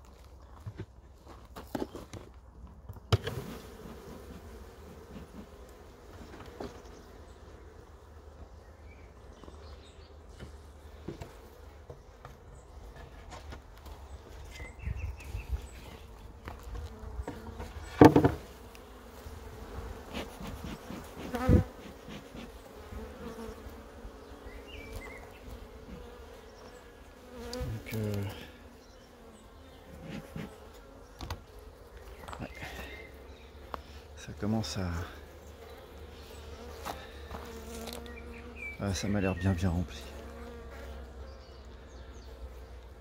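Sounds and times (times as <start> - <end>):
bees buzzing: 3.1 - 43.0.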